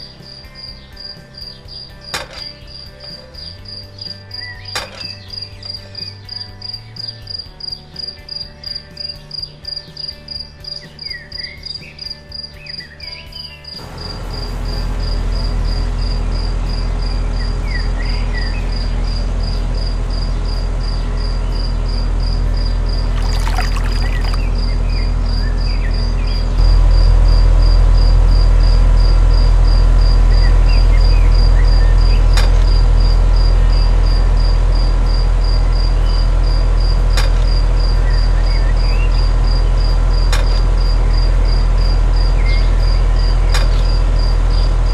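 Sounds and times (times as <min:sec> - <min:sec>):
crickets chirping: 0:00.0 - 0:12.6, 0:15.0 - 0:44.8.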